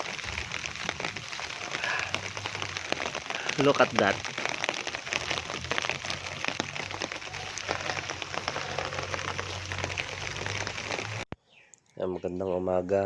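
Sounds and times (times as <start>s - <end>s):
mud rain pattering: 0.0s - 11.3s.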